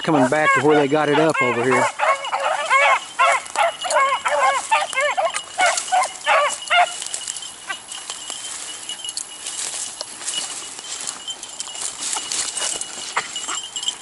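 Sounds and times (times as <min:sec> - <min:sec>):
beagles baying: 0:00.0 - 0:14.0.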